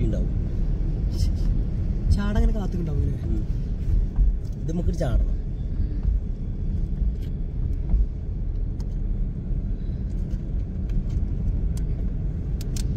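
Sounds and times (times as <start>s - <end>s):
car rumble from inside cabin: 0.0s - 12.9s.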